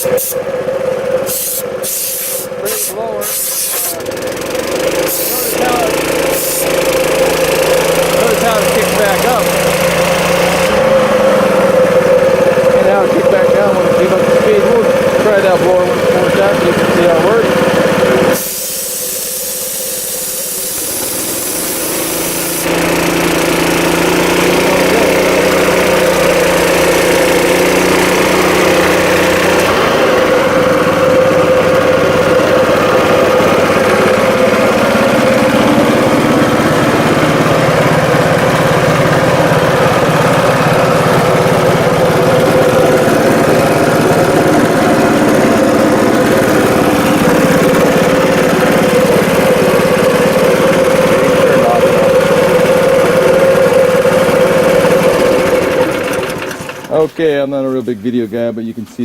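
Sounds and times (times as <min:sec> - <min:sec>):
air blow gun hissing: 0:00.0 - 0:00.5, 0:01.2 - 0:12.8, 0:17.9 - 0:30.4, 0:32.6 - 0:57.0
air compressor engine running: 0:00.0 - 0:59.0.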